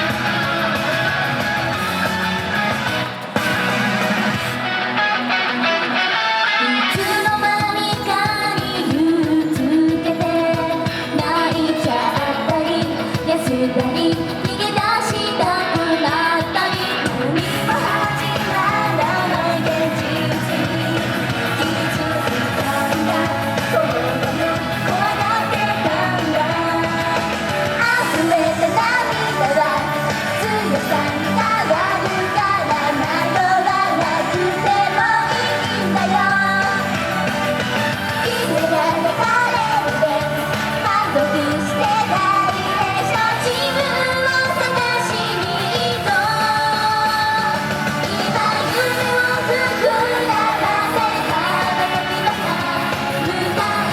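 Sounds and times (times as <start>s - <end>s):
pop-rock backing track: 0.0s - 53.9s
female group singing: 6.5s - 53.9s.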